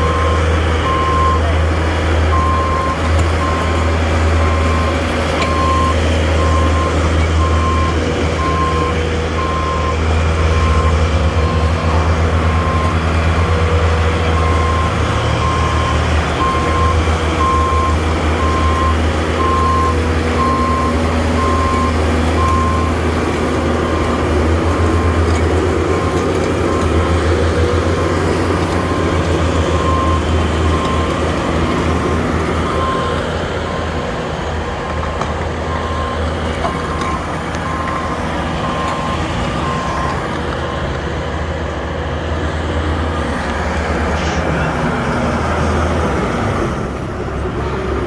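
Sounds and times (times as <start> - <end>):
backup alarm beeping: 0.0 - 1.6, 2.3 - 34.0, 34.6 - 41.0
engine running: 0.0 - 48.0.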